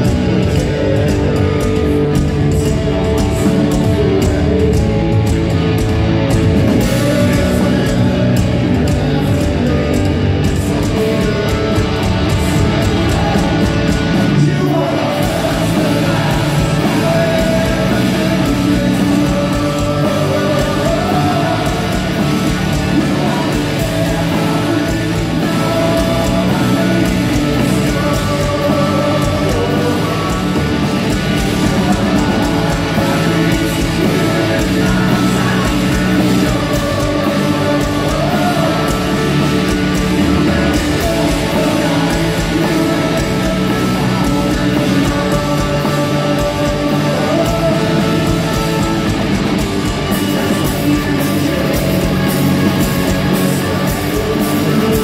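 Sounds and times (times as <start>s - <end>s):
loud electric guitars: 0.0s - 55.0s
person singing: 0.0s - 55.0s.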